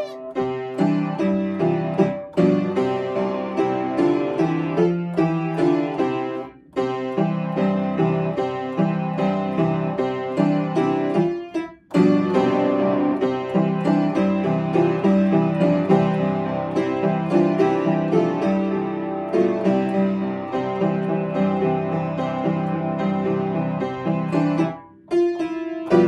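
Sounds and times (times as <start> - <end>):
upright piano playing: 0.0 - 26.0.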